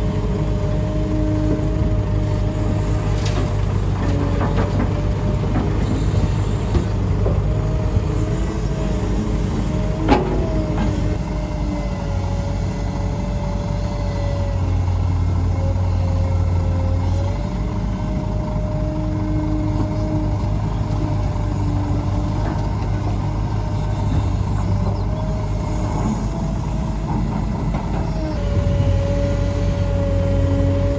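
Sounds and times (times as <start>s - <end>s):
heavy diesel machinery running: 0.0s - 30.9s.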